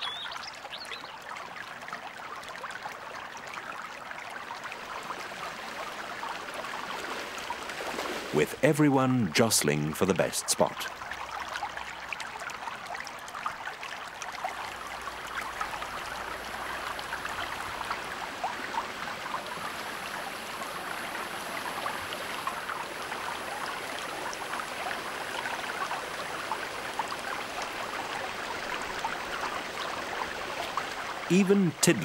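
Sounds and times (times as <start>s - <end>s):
water drips and plinks: 0.0s - 32.0s.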